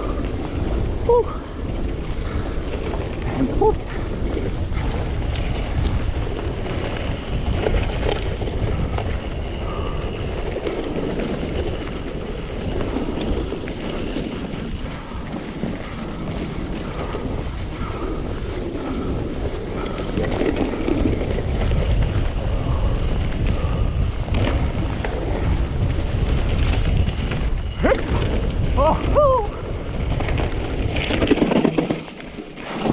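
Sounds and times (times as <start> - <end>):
bike tyres rolling on rough trail: 0.0 - 32.9
wind buffeting microphone: 0.0 - 32.9.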